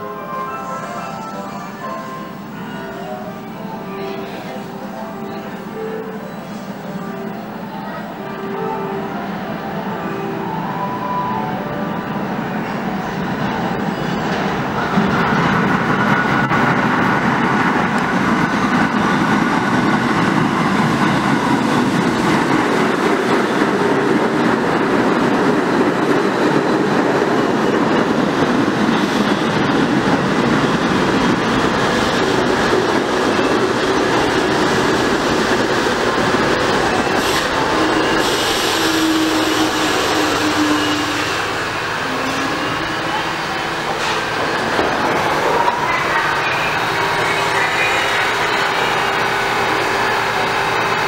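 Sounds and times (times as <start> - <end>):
subway train rumble: 0.0 - 51.0.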